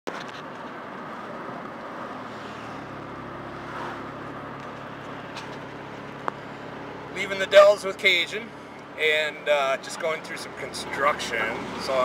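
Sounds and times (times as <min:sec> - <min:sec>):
vehicle cabin road noise: 0:00.1 - 0:12.0.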